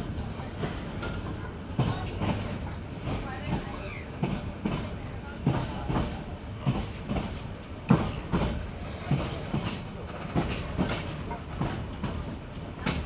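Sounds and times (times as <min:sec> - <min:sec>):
train running rumble: 0:00.0 - 0:13.0
train wheels clacking over joints: 0:00.0 - 0:13.0.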